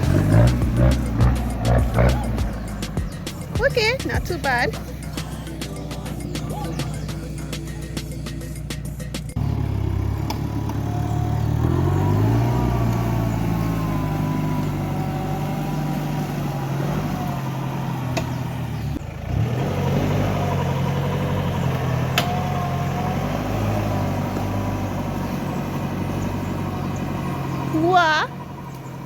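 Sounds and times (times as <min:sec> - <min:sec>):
van engine working hard: 0:00.0 - 0:29.0.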